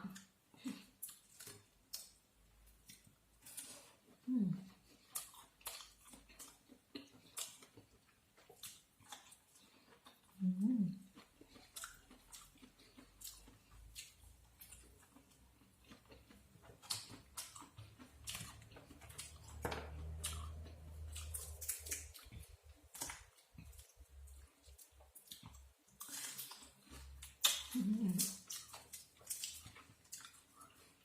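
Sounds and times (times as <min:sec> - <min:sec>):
chewing: 0:00.1 - 0:31.0.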